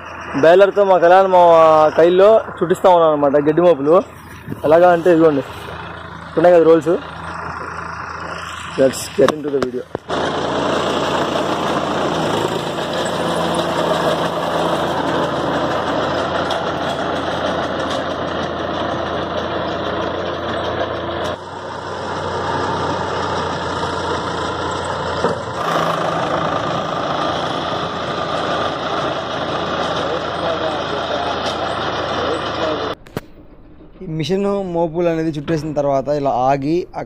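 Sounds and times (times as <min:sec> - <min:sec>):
diesel tractor engine running: 0:00.0 - 0:37.0
baler mechanical din: 0:05.8 - 0:36.6.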